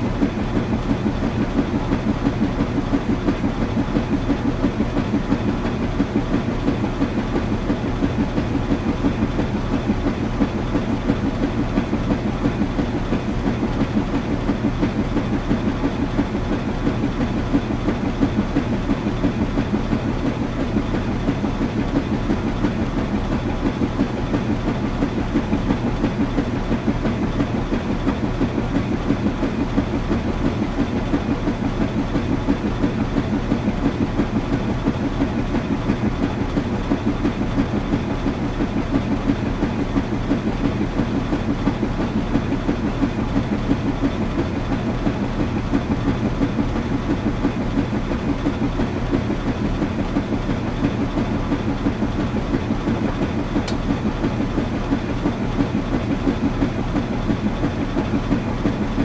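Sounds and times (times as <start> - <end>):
washing machine hum and rattle: 0.0 - 59.0.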